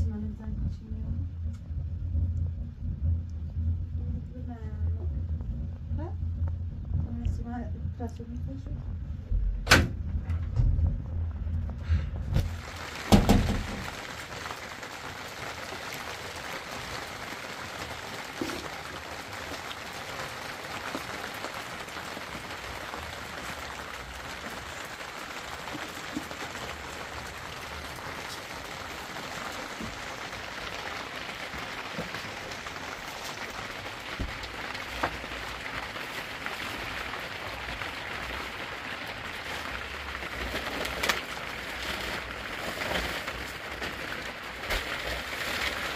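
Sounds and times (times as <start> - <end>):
steady rain hissing: 0.0 - 45.9.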